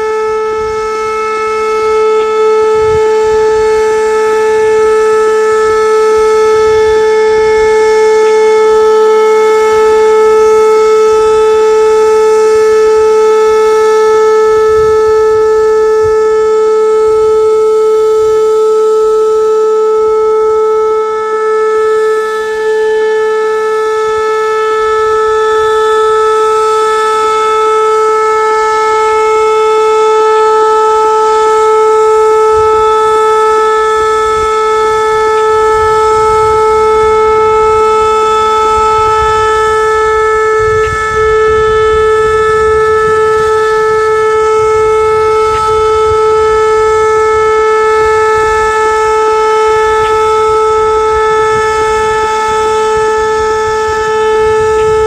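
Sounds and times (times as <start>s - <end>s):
warning siren steady tone: 0.0s - 55.0s.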